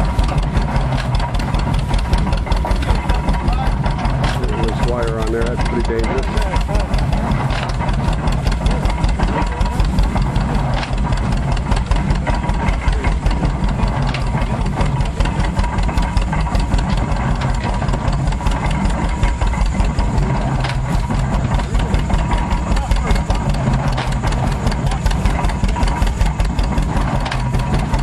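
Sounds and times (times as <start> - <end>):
old engine running: 0.0 - 28.0.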